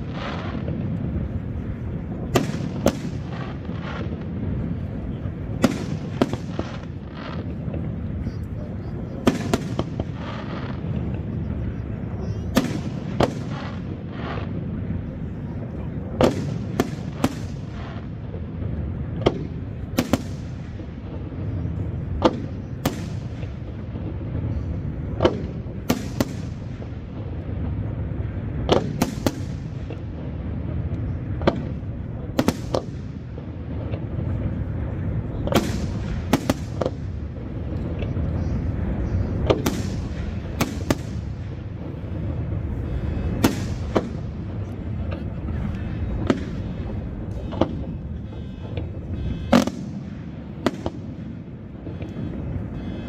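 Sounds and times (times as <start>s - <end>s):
low background rumble: 0.0s - 53.0s.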